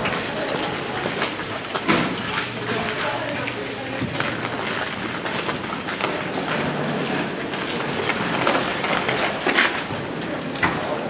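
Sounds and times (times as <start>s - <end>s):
suitcase wheels rolling: 0.0s - 11.0s.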